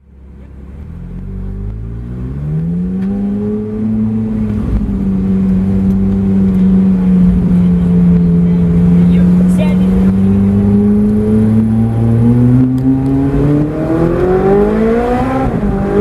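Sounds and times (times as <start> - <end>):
car engine exhaust revving: 0.0 - 16.0.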